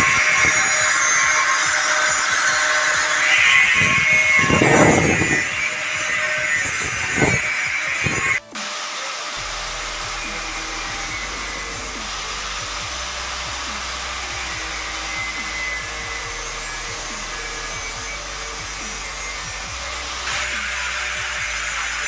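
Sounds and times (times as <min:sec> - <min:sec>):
angle grinder cutting plastic: 0:00.0 - 0:22.0.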